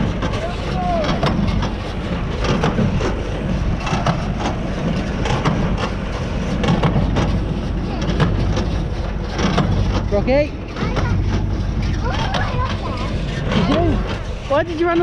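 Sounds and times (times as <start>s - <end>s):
baler mechanism knocking: 0.0s - 15.0s
tractor engine running: 0.0s - 15.0s.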